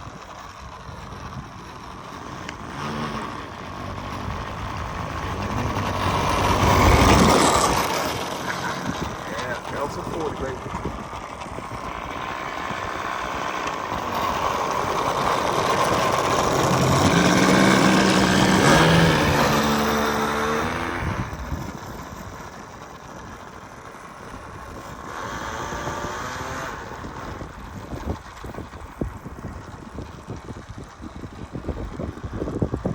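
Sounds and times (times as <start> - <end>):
model airplane engine running: 0.0 - 32.9.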